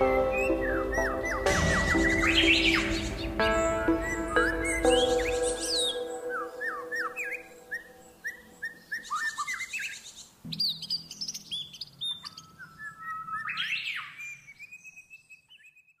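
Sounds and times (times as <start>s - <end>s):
songbirds chirping and singing: 0.0s - 16.0s.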